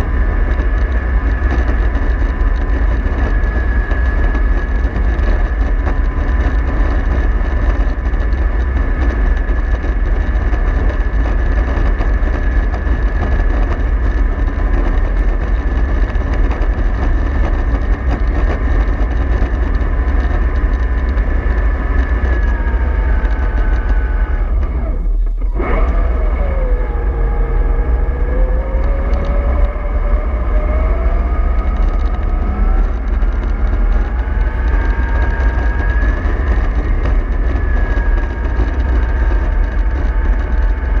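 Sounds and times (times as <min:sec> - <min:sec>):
bus engine rumbling: 0:00.0 - 0:41.0
bus gearbox whine: 0:00.0 - 0:41.0.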